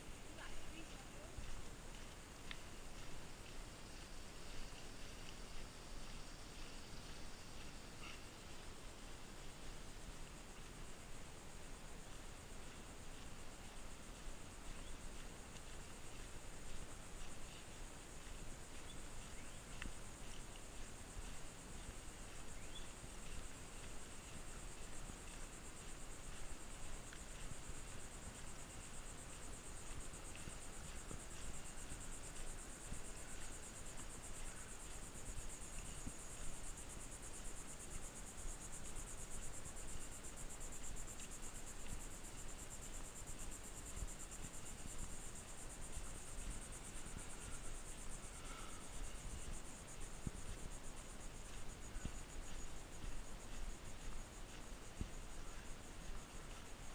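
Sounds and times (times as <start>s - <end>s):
insects trilling: 0.0s - 11.0s, 14.4s - 56.9s.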